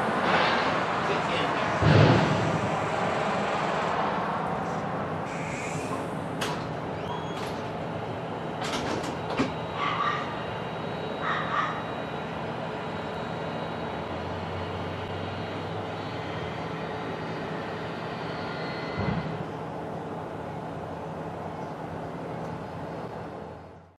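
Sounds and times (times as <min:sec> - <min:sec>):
garbage truck diesel engine: 0:00.0 - 0:24.0.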